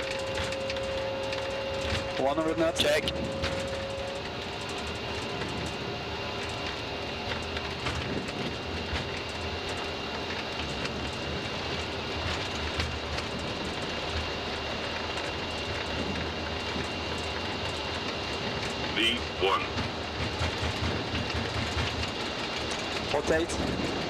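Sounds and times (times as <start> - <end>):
jet engine noise with whine: 0.0 - 24.0
wheels rumbling on runway: 0.0 - 24.0.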